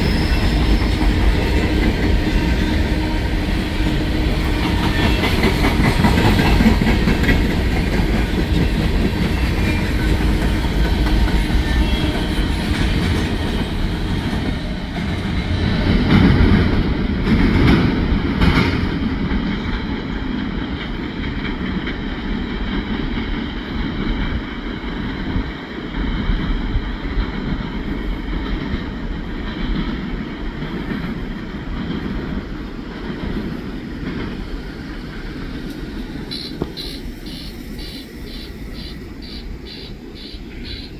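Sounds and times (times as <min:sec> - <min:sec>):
train wheels rumbling and clattering: 0:00.0 - 0:40.9.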